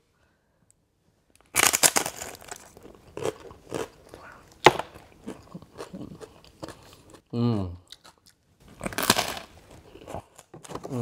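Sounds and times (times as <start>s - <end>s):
tostada crunching: 1.4s - 7.3s, 7.9s - 10.9s.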